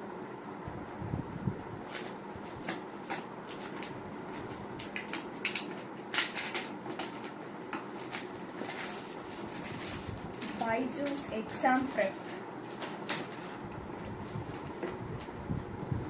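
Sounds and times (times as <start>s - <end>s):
low background hum: 0.0s - 16.0s
packaging scrapes and rustles: 1.9s - 15.0s.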